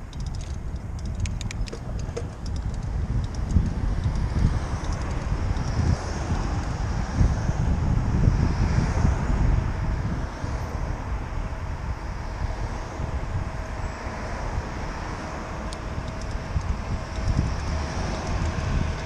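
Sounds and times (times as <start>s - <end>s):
road traffic: 0.0s - 19.0s
wind rumbling on microphone: 0.0s - 19.0s.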